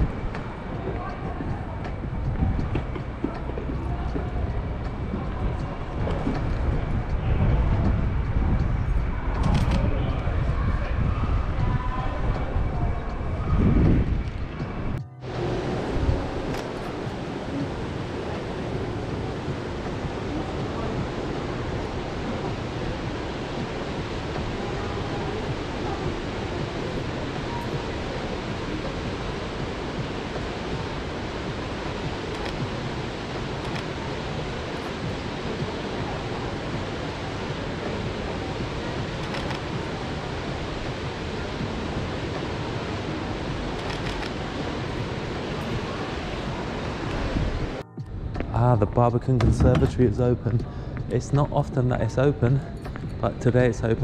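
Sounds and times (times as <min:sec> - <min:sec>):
rushing outdoor ambience: 0:00.0 - 0:54.0.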